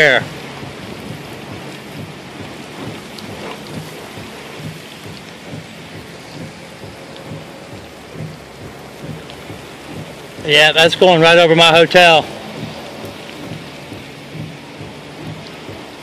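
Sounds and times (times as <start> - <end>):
low thunder rumble: 0.0 - 16.0
wind and rain rushing: 0.0 - 16.0.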